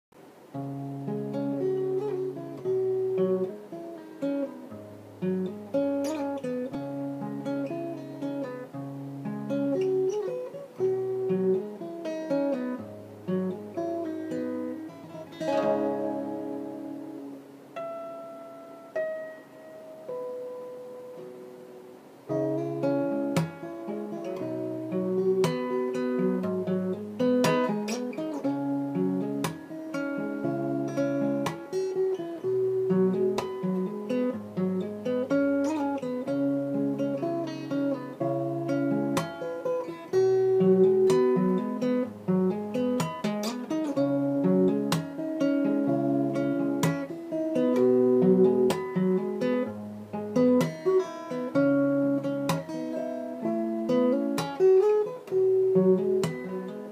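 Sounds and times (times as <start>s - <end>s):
plucked string instrument melody: 0.3s - 56.9s.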